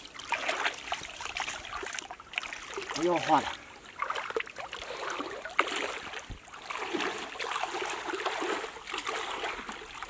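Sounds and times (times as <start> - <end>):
sharp splash: 0.0 - 10.0
water splashing and trickling: 0.0 - 10.0.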